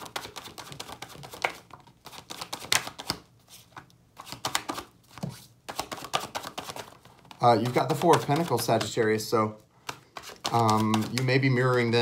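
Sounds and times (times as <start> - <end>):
cards being shuffled: 0.0 - 9.1, 9.8 - 12.0.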